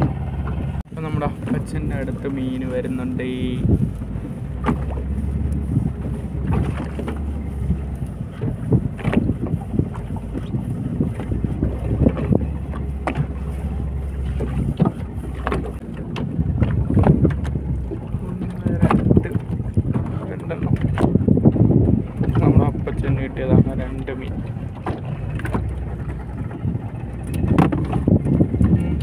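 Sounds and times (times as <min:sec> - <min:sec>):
low rumble: 0:00.0 - 0:29.0
water slapping boat hull: 0:00.0 - 0:29.0
wind buffeting microphone: 0:00.0 - 0:29.0
short knocks and splashes: 0:01.3 - 0:29.0.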